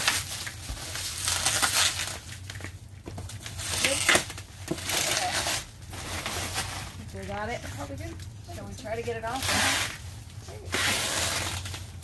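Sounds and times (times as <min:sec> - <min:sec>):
plastic stretch wrap crinkling: 0:00.0 - 0:12.0.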